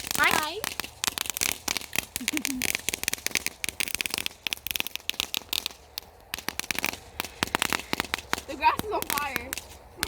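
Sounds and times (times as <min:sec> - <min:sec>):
firework crackling: 0:00.0 - 0:10.0.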